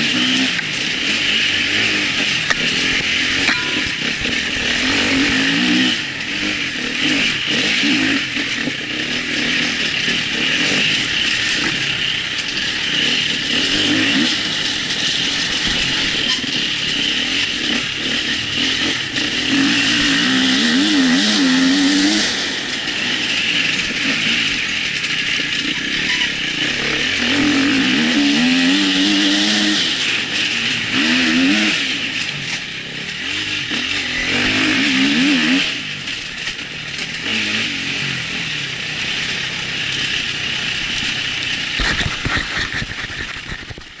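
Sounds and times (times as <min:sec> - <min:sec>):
motorcycle engine revving: 0:00.0 - 0:44.0
wind and trail noise: 0:00.0 - 0:44.0.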